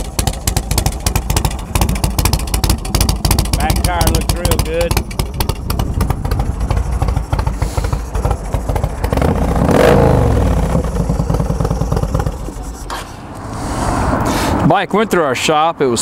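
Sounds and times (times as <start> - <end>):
motorcycle engine idling: 0.0 - 12.9
motorcycle engine revving: 0.0 - 12.9.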